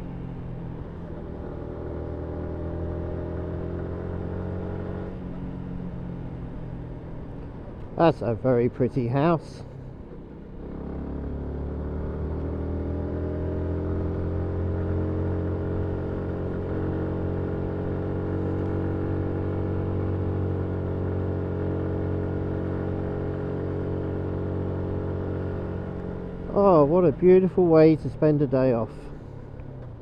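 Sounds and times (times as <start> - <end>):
motorcycle engine revving: 0.0 - 8.0, 10.5 - 30.0.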